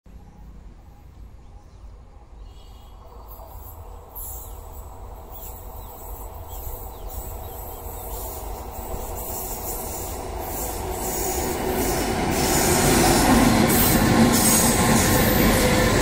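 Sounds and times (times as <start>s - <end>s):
distant train rumble: 0.1s - 16.0s
insects chirping: 2.5s - 16.0s.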